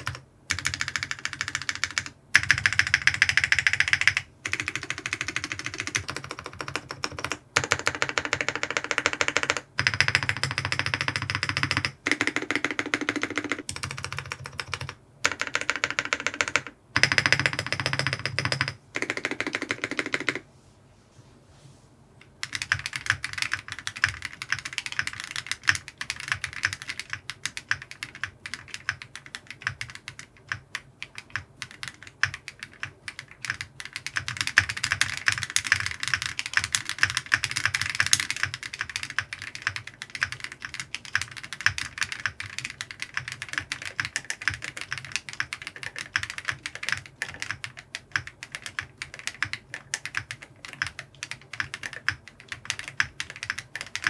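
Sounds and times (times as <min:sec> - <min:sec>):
mechanical keyboard typing: 0:00.0 - 0:20.4, 0:22.2 - 0:54.0.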